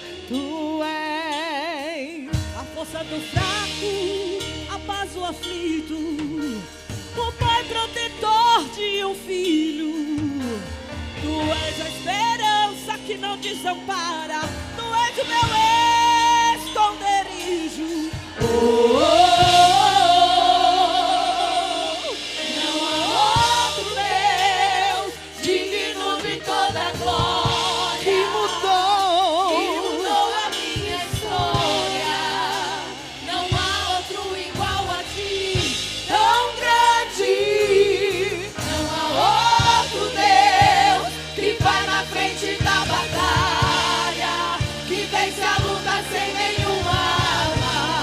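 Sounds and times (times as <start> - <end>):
instrumental accompaniment: 0.0 - 48.0
vocal group singing a gospel song: 0.0 - 48.0.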